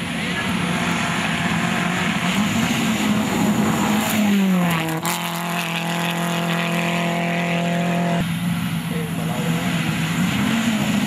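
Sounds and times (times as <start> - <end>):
rally car engine passing: 0.0 - 11.0.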